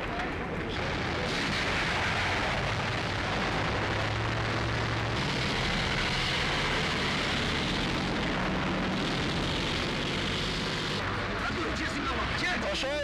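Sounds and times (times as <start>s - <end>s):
tank engine running: 0.0s - 13.0s.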